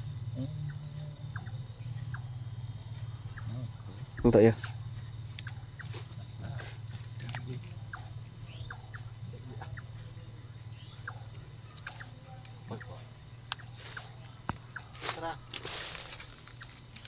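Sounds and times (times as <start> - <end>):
insects trilling: 0.0 - 17.0
low hum: 0.0 - 17.0
animal chirping calls: 0.3 - 15.5.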